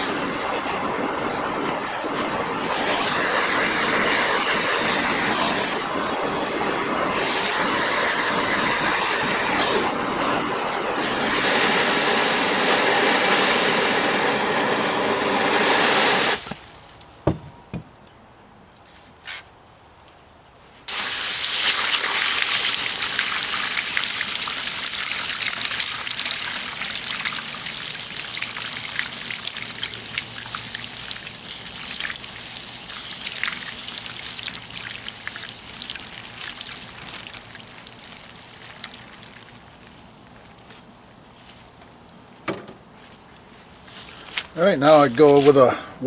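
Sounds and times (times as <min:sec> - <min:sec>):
water sizzling on hot metal: 0:00.0 - 0:16.5, 0:20.9 - 0:42.9.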